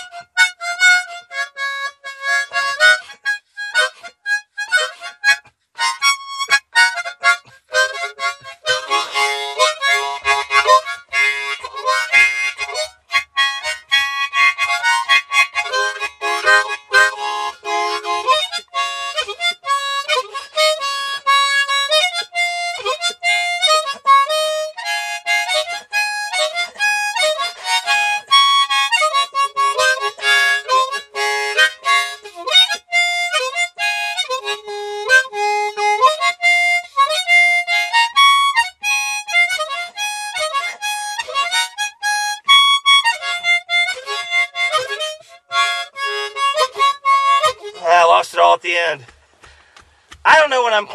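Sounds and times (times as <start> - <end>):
harmonica playing: 0.0 - 49.6.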